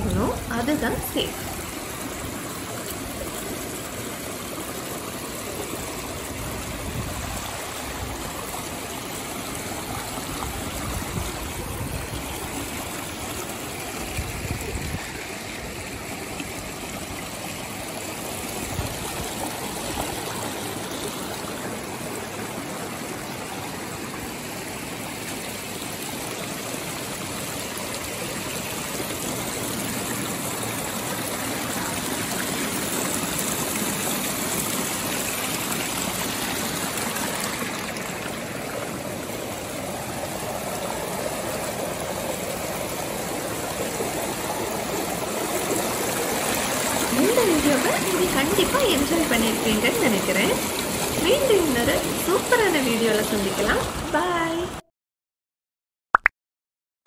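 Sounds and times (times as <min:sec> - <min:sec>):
stream rushing over rocks: 0:00.0 - 0:54.4.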